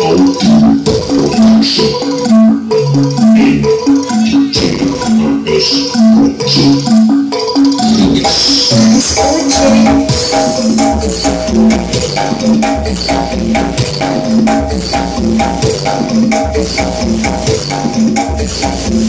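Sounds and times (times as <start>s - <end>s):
loud dance music: 0.0s - 19.0s.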